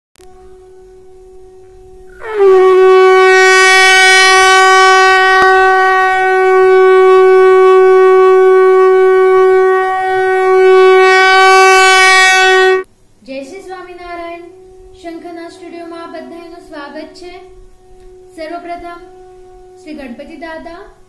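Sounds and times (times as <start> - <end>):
conch shell blown: 0.2 - 12.9, 14.2 - 21.0.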